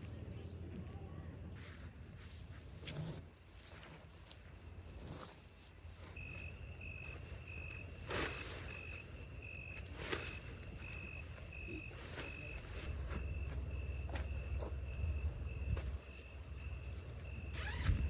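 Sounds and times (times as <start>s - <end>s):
cricket chirping: 2.8s - 18.0s.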